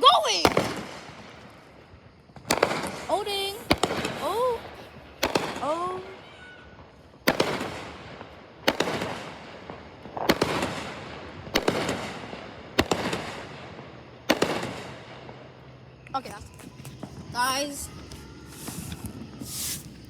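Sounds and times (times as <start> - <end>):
fireworks bangs with echo: 0.0 - 16.0, 16.8 - 20.0.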